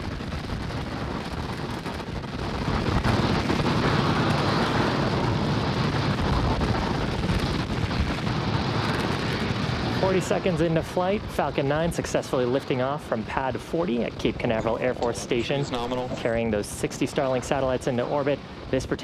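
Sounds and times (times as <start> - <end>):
rocket engines rumbling: 0.0 - 19.0.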